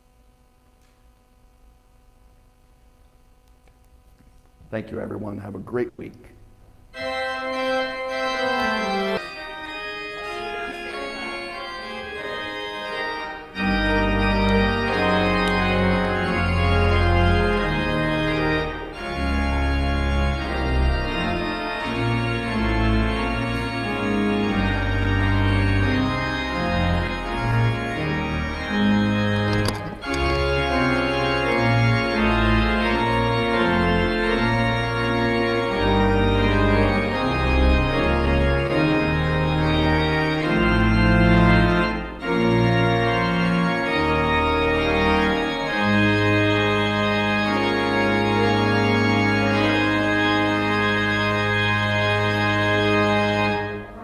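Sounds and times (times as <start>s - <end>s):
organ chords: 0.0s - 54.0s
deep organ pedal bass: 4.6s - 54.0s.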